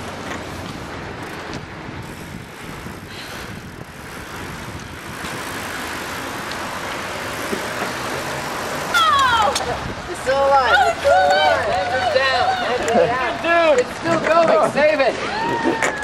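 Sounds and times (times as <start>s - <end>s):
bicycles rushing road noise: 0.0s - 16.0s
passing car traffic: 0.0s - 16.0s.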